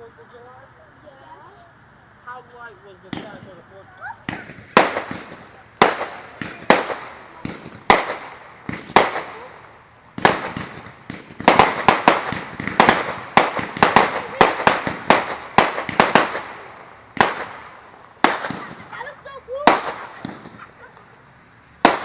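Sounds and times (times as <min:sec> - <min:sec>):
fireworks banging and crackling: 0:02.4 - 0:22.0.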